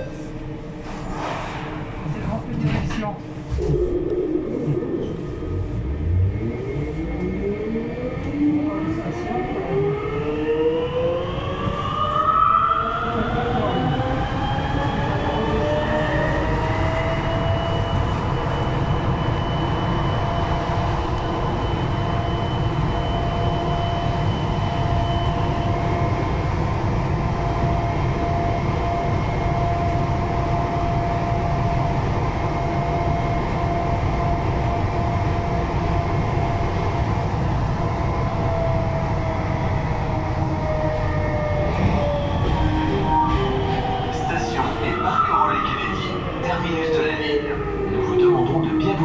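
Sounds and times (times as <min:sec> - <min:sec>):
metro train rumbling in tunnel: 0:00.0 - 0:49.0.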